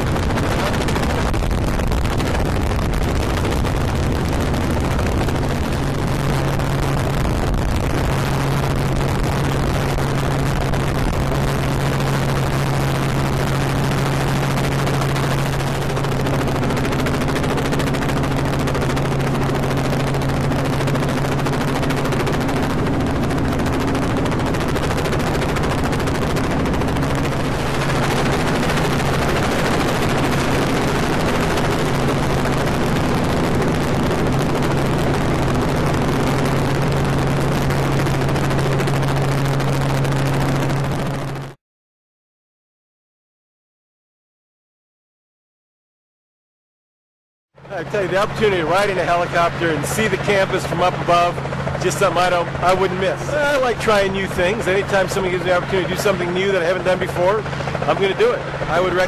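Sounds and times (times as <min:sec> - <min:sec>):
helicopter engine and rotor drone: 0:00.0 - 0:41.6, 0:47.6 - 0:59.0.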